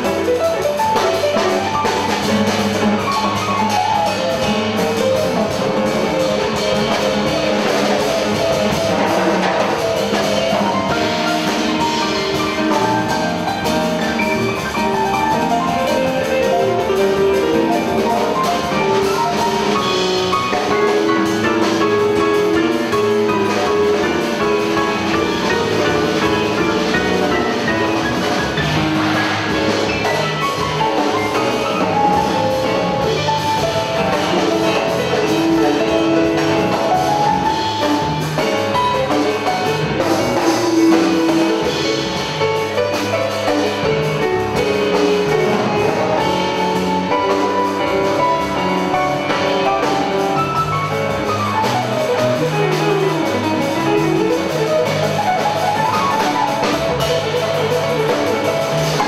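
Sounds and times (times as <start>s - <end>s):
bass: 0.0s - 59.0s
drum kit: 0.0s - 59.0s
jazz piano solo with fast runs: 0.0s - 59.0s.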